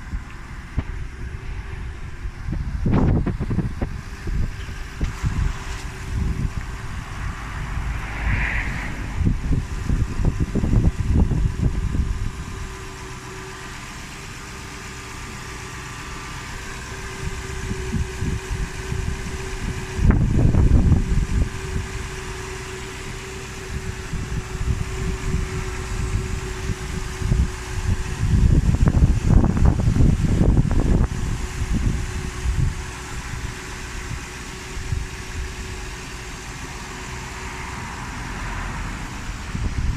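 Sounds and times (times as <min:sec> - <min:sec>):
wind rumbling on microphone: 0:00.0 - 0:13.7, 0:16.6 - 0:39.9
car engine idling: 0:00.0 - 0:39.9.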